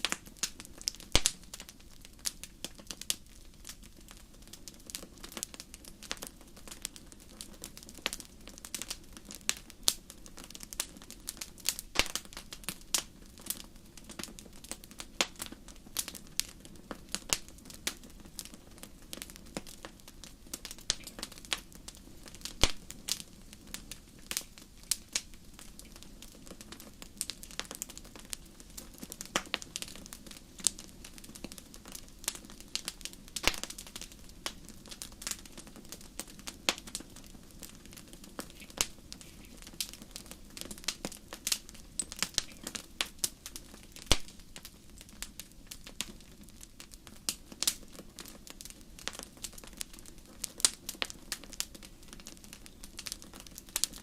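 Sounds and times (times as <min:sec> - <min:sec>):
fire pops and snaps: 0:00.0 - 0:54.0
low fire hiss: 0:00.0 - 0:54.0
wood fire crackling: 0:00.0 - 0:54.0.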